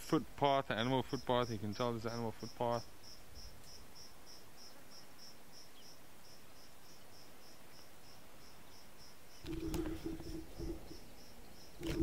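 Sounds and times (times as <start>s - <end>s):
faint outdoor hiss: 0.0s - 12.0s
cricket chirping: 0.9s - 12.0s.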